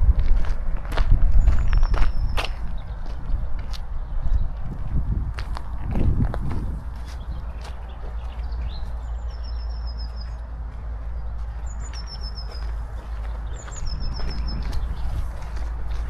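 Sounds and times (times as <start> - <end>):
wind rumble on microphone: 0.0 - 16.0
songbird singing: 1.3 - 5.0, 6.5 - 16.0.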